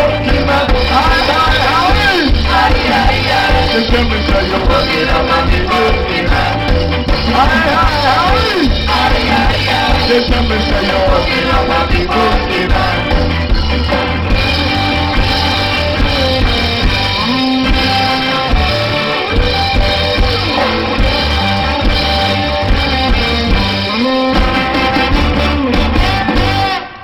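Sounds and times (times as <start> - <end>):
ska band playing: 0.0 - 27.0.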